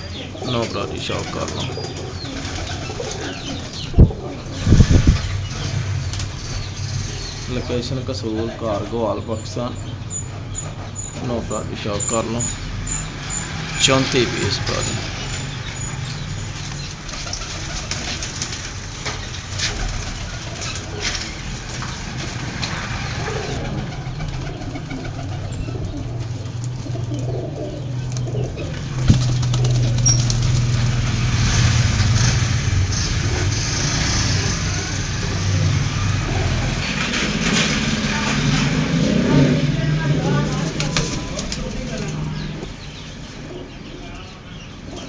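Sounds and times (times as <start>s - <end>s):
pigeons cooing: 0.0s - 45.0s.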